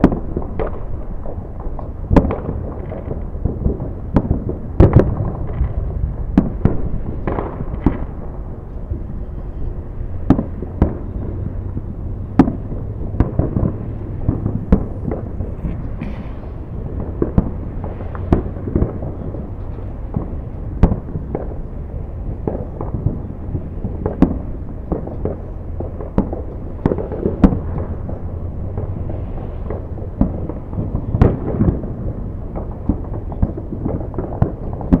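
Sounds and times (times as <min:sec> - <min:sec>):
firework bangs and pops: 0:00.0 - 0:09.0, 0:10.1 - 0:35.0
low rumble: 0:00.0 - 0:35.0.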